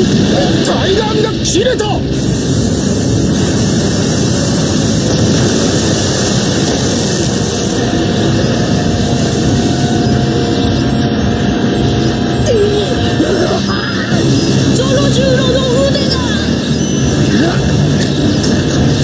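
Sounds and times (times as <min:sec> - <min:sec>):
rumbling roar of crumbling rock: 0:00.0 - 0:19.0.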